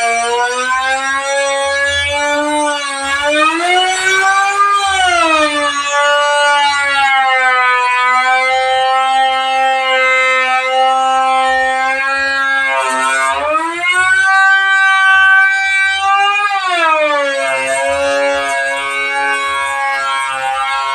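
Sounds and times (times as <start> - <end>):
power tool motor whining: 0.0 - 6.4, 8.6 - 15.4, 16.1 - 20.9.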